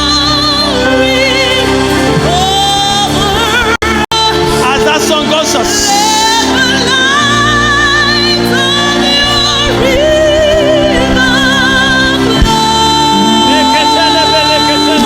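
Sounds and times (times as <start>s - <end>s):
woman singing gospel song: 0.0s - 4.9s, 5.6s - 15.0s
bass: 0.0s - 15.0s
keyboard chords: 0.0s - 15.0s.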